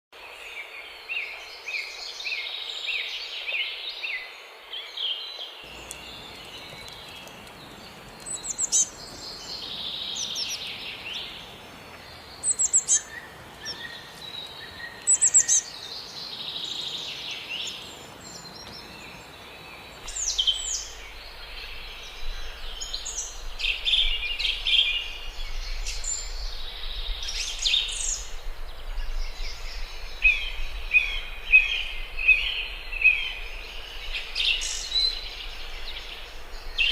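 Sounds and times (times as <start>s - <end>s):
background hiss: 0.2s - 36.9s
songbirds chirping and singing: 0.2s - 36.9s.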